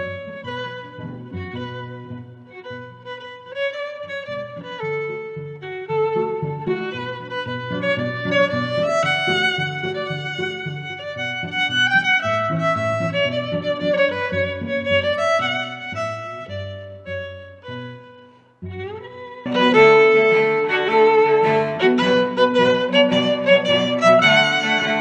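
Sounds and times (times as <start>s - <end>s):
instrumental music: 0.0s - 25.0s.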